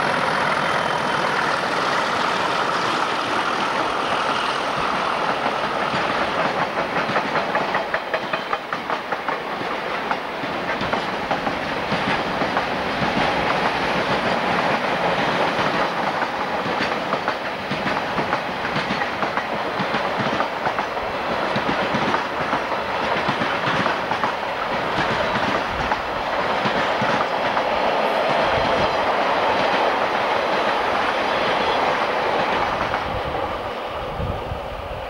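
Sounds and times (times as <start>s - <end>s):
train wheels clicking over rail joints: 0.0s - 33.4s
train rumble: 0.0s - 35.0s.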